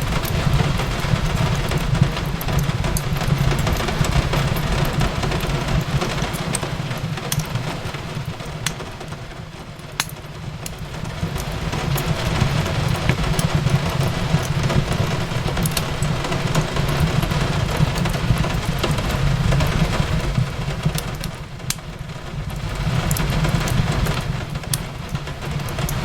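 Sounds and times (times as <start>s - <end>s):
fireplace crackling and popping: 0.0s - 26.0s
rain hissing: 0.0s - 26.0s.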